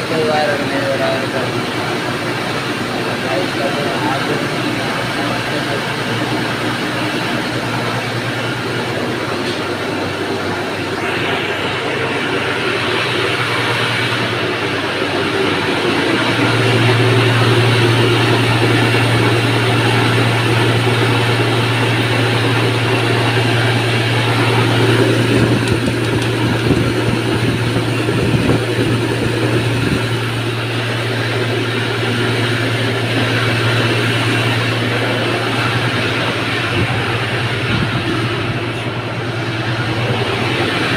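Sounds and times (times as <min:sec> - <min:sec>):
mill motor humming: 0:00.0 - 0:40.9.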